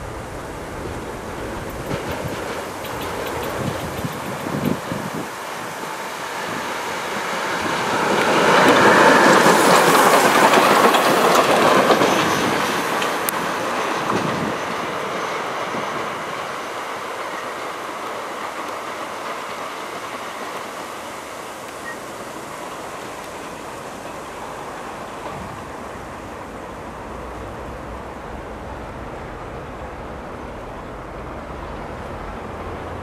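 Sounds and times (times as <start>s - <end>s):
steam locomotive hissing: 0.0s - 33.0s
train wheel noise: 0.0s - 33.0s.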